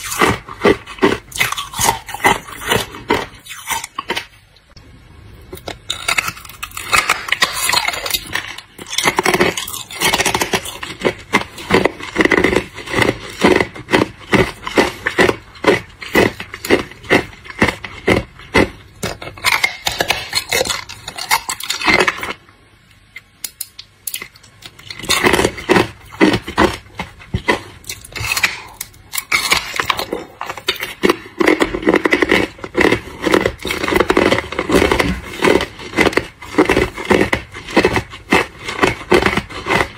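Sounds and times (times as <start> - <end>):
ice crunching in mouth: 0.0 - 4.4, 5.6 - 22.4, 23.7 - 39.9.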